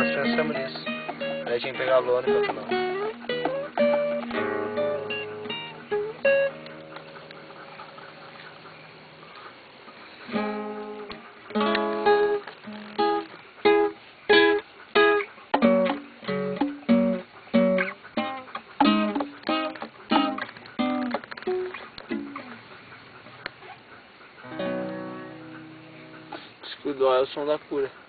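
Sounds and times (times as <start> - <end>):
acoustic guitar strumming chords: 0.0 - 9.4, 10.2 - 22.7, 24.4 - 26.6.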